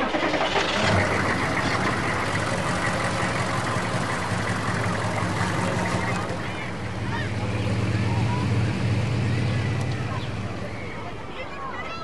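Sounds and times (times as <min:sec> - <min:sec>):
car engine starting and idling: 0:00.0 - 0:11.6.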